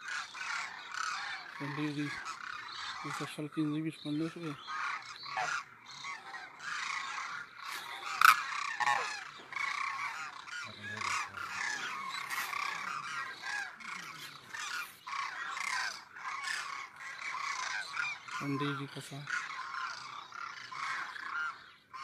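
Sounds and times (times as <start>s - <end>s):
cranes calling: 0.0s - 22.0s.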